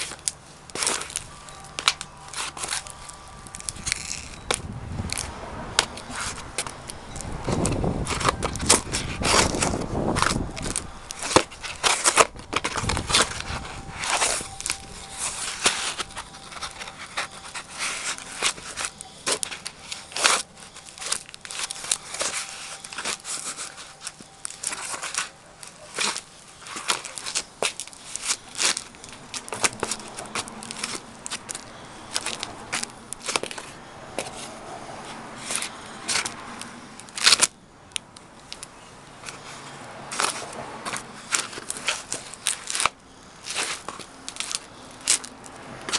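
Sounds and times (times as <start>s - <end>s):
cardboard box crunching and tearing: 0.0s - 34.5s, 40.1s - 45.9s.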